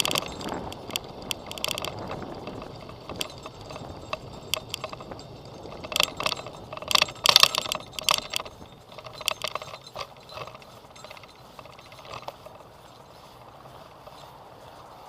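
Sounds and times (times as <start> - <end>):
bicycle clicking and rattling: 0.0 - 15.0.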